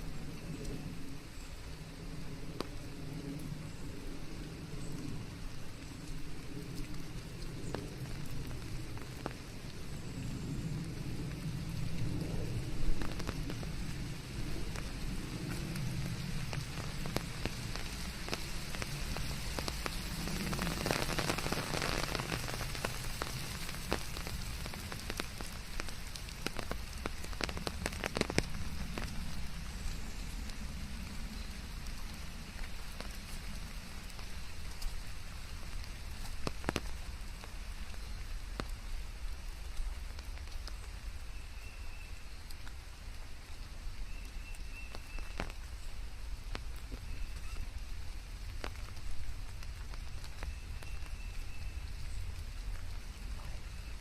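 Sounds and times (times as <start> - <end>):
steady rain with ticking drops: 0.0 - 54.0.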